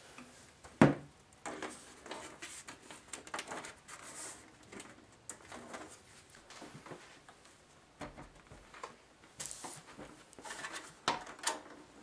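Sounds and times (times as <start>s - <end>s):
cables rustling: 1.3s - 12.0s.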